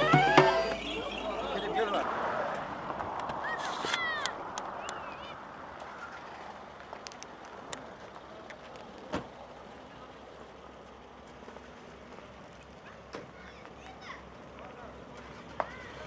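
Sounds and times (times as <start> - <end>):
car moving slowly: 0.0 - 16.0.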